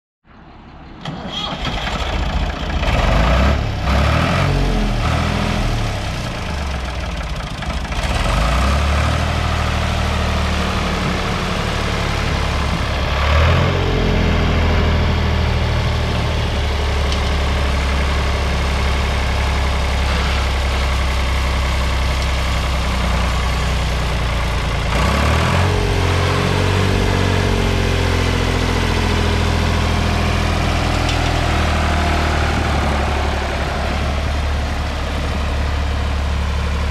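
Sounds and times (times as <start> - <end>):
tractor engine running: 0.4 - 36.9.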